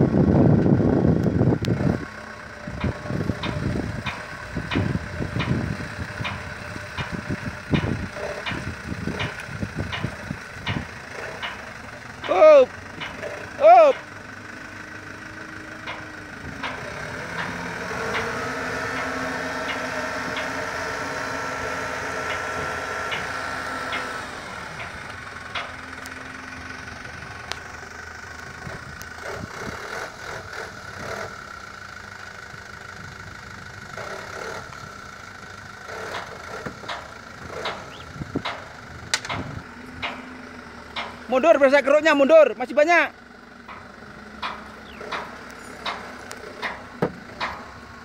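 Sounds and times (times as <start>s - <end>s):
diesel engines running: 0.0s - 48.0s.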